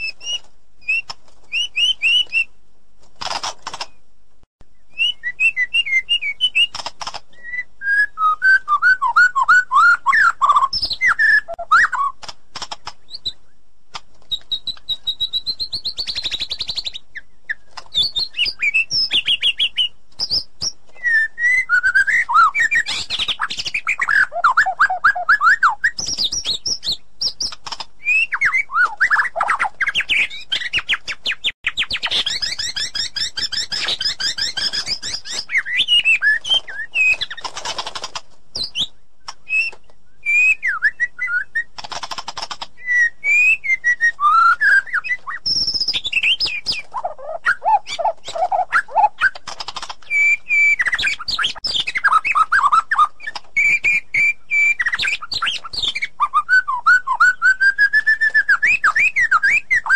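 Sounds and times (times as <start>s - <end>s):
bird singing whistles and trills: 0.0s - 2.6s, 4.6s - 12.2s, 12.8s - 13.6s, 14.3s - 37.5s, 38.5s - 41.8s, 42.8s - 59.9s.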